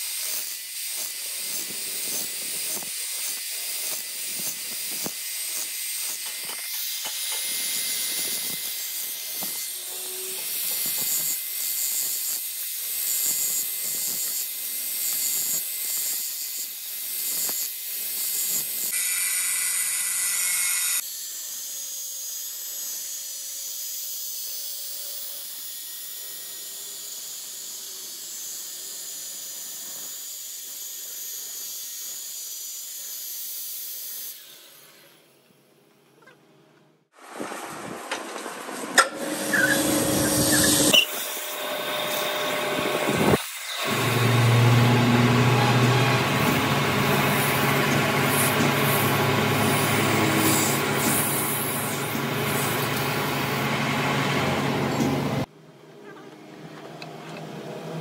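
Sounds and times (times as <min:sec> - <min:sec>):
angle grinder grinding metal: 0:00.0 - 0:35.3, 0:38.7 - 0:55.5.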